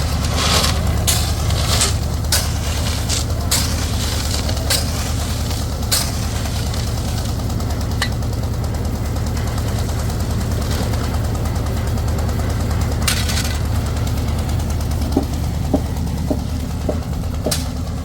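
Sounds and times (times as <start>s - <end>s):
engine running with fast throb: 0.0s - 18.0s.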